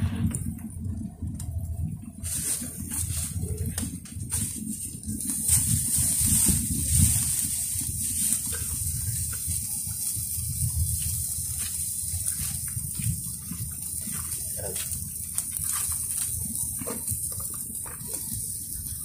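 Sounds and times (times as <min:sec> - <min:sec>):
charcoal grill crackles: 0:00.0 - 0:19.0
wind on microphone: 0:00.0 - 0:19.0
steady high hiss: 0:02.1 - 0:19.0.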